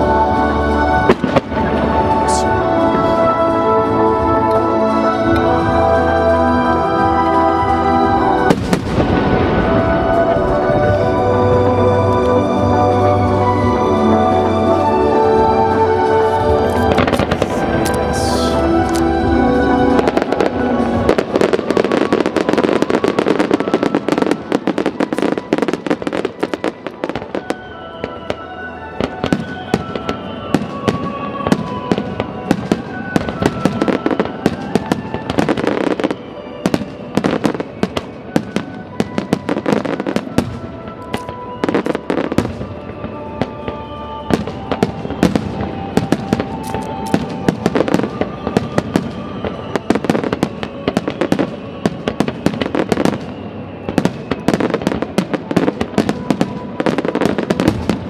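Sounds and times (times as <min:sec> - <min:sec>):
fireworks bursting and crackling: 0:00.0 - 0:58.0
music over loudspeakers: 0:00.0 - 0:58.0.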